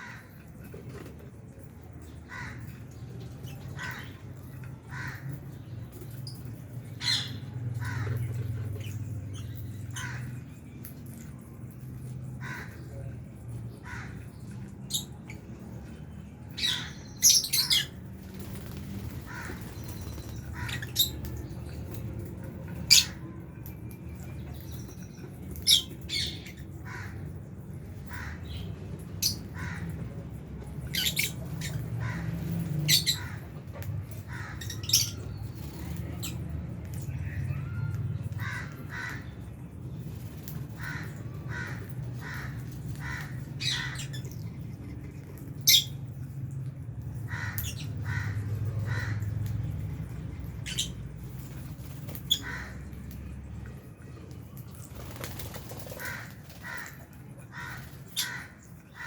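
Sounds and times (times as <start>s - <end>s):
birds squawking and chirping: 0.0s - 59.0s.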